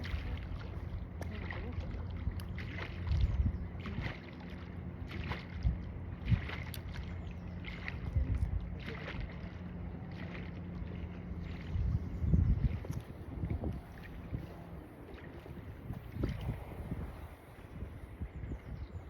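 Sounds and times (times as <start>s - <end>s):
boat engine hum: 0.0s - 19.0s
water swishing and splashing: 0.0s - 19.0s.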